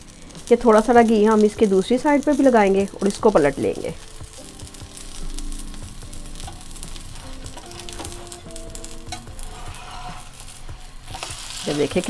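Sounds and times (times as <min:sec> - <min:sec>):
flatbread sizzling in ghee: 0:00.0 - 0:12.0.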